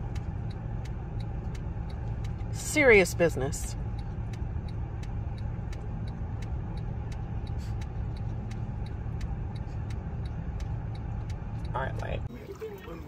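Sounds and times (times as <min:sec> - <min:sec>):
light repeating tick: 0:00.0 - 0:12.3
vehicle engine rumbling: 0:00.0 - 0:13.0.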